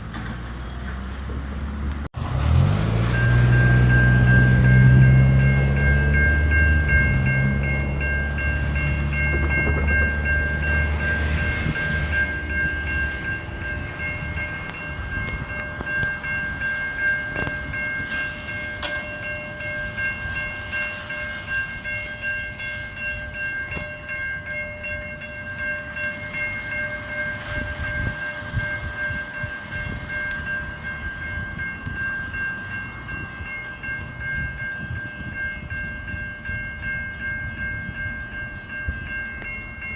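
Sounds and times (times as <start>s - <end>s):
train rumbling: 0.0s - 39.9s
level crossing warning bell: 2.2s - 39.9s.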